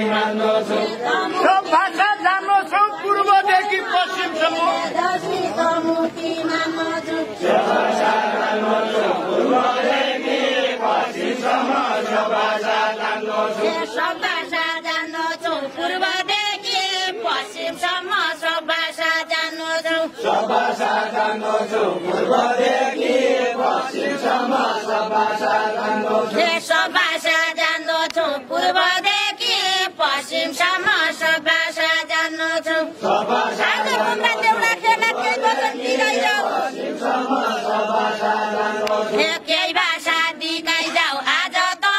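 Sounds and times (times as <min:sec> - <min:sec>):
group singing unaccompanied folk song: 0:00.0 - 0:41.9.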